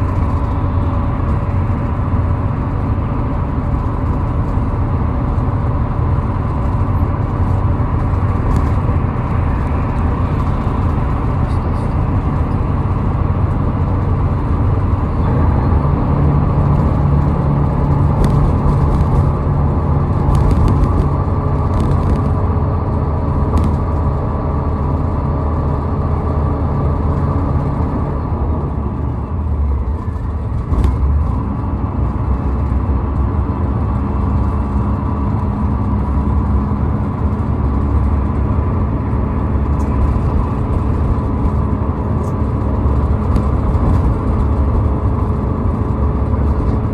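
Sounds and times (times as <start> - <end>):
car driving on highway: 0.0 - 46.9.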